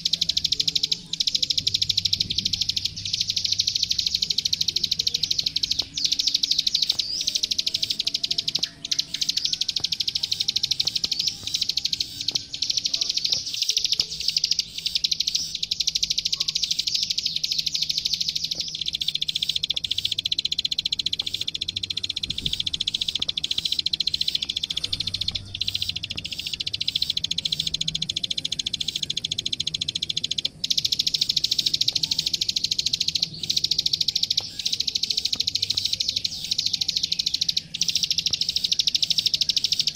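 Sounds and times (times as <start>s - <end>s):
bird singing rapid clicking notes: 0.0s - 39.9s.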